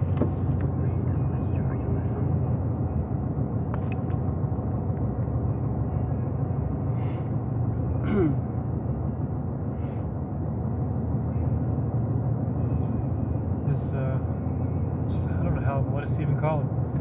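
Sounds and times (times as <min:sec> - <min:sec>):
truck driving rumble: 0:00.0 - 0:17.0.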